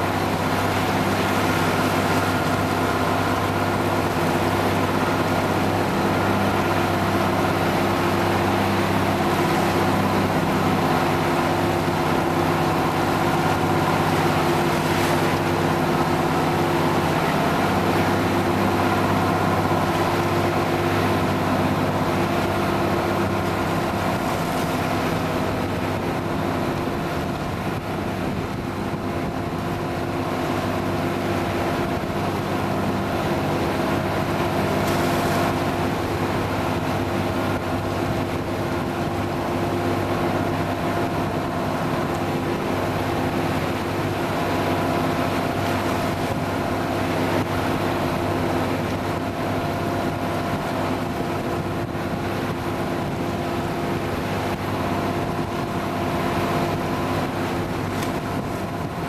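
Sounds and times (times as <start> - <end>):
motorboat engine droning: 0.0 - 59.0
rushing water: 0.0 - 59.0.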